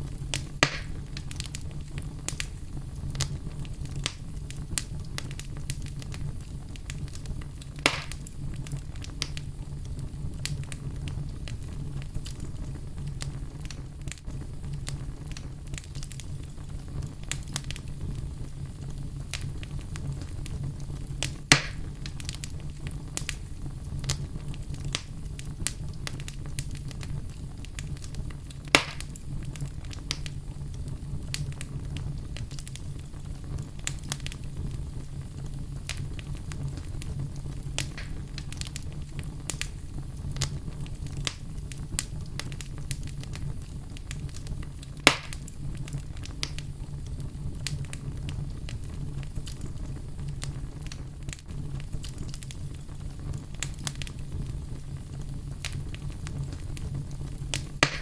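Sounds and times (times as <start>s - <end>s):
fire crackling: 0.0s - 58.0s
low rumble of flames: 0.0s - 58.0s
wood fire popping: 0.0s - 58.0s.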